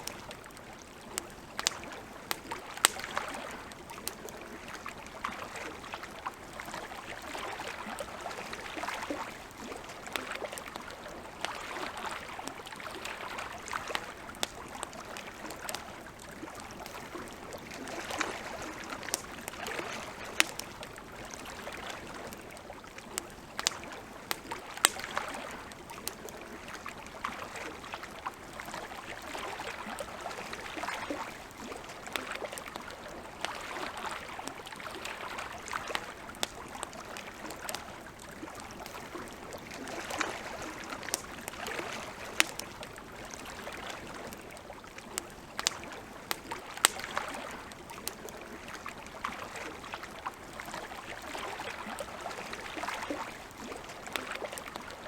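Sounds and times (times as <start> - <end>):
campfire crackling and popping: 0.0 - 55.0
lake water lapping: 0.0 - 55.0.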